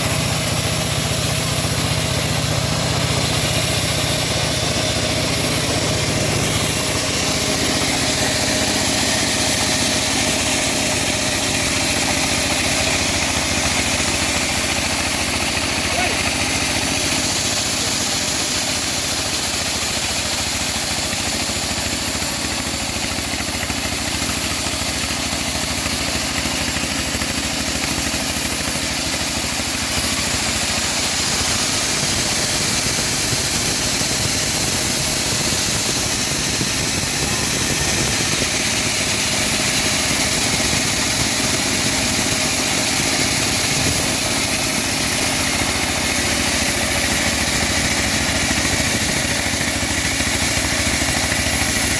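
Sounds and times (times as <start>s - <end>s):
bandsaw mill running: 0.0s - 51.9s.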